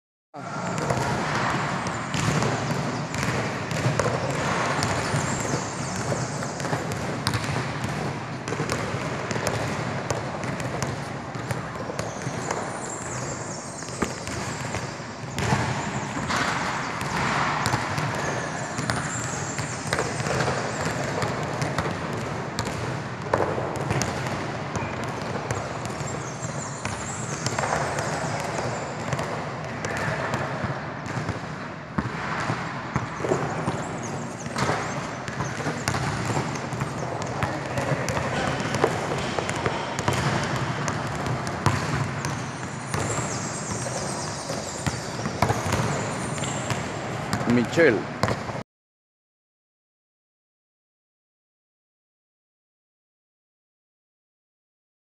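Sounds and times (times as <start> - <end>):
steady background noise: 0.4 - 48.6
basketball bouncing on hard floor: 0.6 - 12.9, 13.8 - 30.4, 32.0 - 47.4, 48.2 - 48.5.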